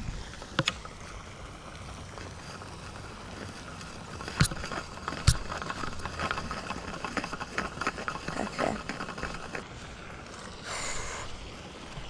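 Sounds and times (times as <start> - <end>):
steady low hiss: 0.0 - 8.2, 8.8 - 12.0.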